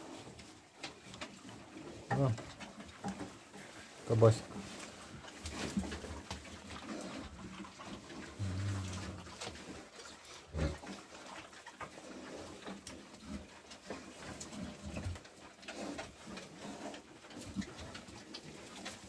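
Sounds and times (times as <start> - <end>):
pigs chewing: 0.0 - 19.0
pigs grunting: 1.5 - 19.0.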